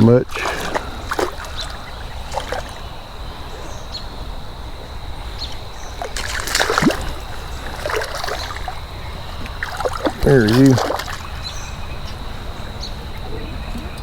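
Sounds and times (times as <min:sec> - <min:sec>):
creek water running over rocks: 0:00.0 - 0:14.0
water splashing: 0:00.0 - 0:14.0.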